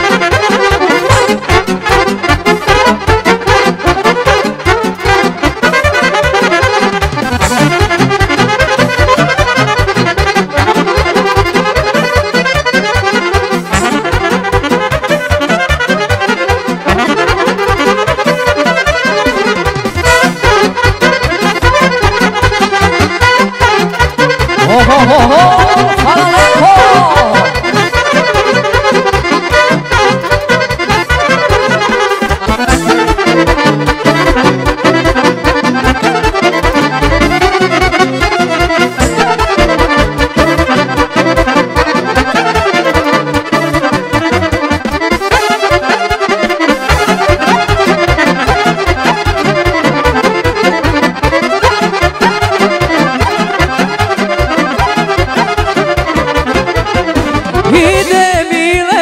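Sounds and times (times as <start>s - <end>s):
accordion: 0.0s - 59.0s
band playing dance tune: 0.0s - 59.0s
driving beat: 0.0s - 59.0s.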